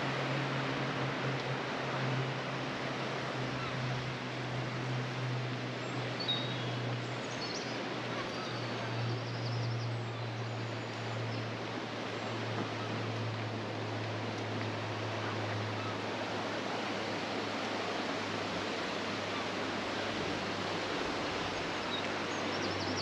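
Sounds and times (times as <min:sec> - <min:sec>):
outdoor background rush: 0:00.0 - 0:23.0.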